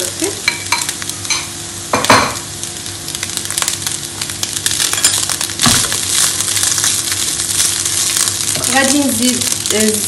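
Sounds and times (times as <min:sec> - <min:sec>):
vegetables and rice sizzling in oil: 0:00.0 - 0:10.0.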